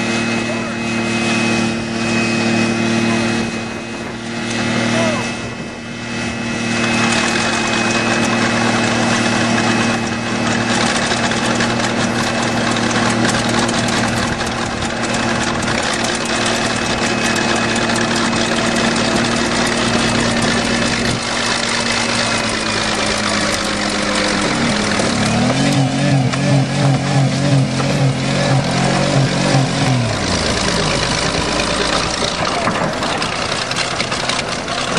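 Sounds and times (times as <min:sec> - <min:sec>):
bulldozer engine: 0:00.0 - 0:34.9
car engine at high revs: 0:00.0 - 0:34.9
continuous clatter: 0:03.0 - 0:34.9.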